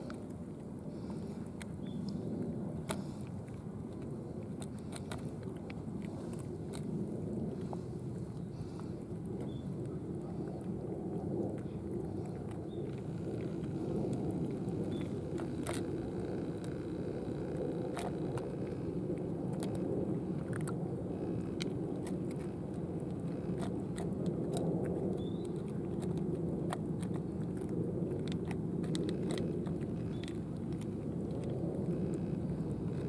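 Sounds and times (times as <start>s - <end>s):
cats chewing wet food: 0.0s - 33.0s
low background rumble: 0.0s - 33.0s.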